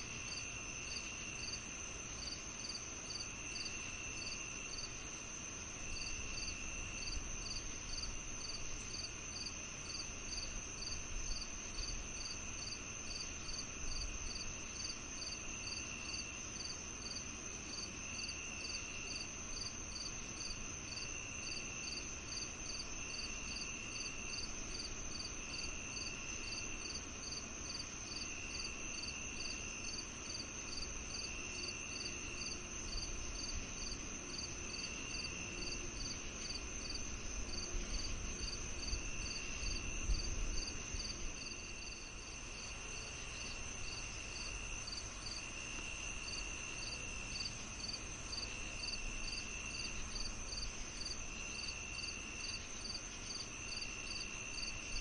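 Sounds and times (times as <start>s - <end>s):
cricket chirping evenly: 0.0s - 55.0s.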